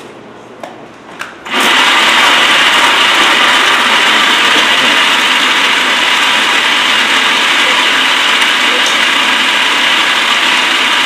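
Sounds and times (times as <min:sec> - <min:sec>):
blender whirring: 0:01.5 - 0:11.0.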